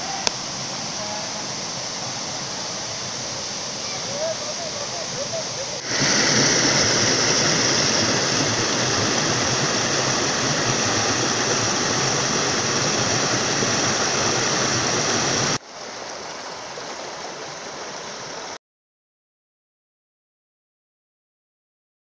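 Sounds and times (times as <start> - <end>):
stream rushing over stones: 0.0 - 18.6.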